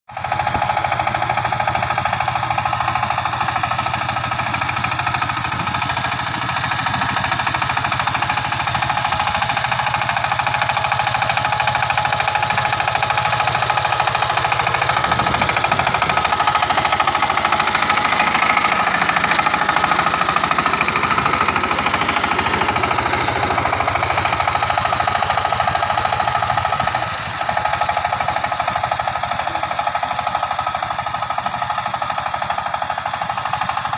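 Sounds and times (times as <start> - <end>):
diesel engine knocking: 0.1 - 33.9.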